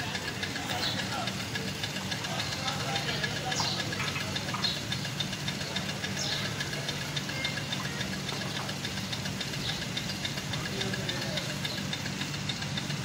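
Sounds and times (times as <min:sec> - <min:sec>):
small engine humming and ticking: 0:00.0 - 0:13.0.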